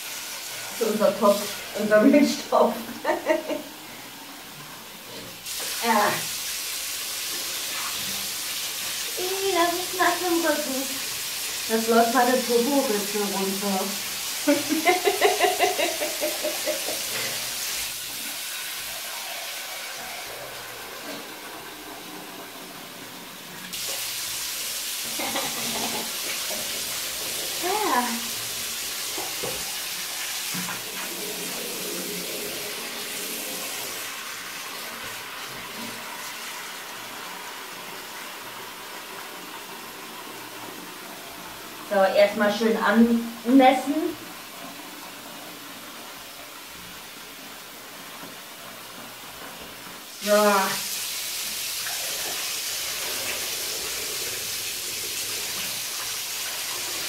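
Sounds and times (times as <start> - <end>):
water running into bathtub: 0.0 - 57.0.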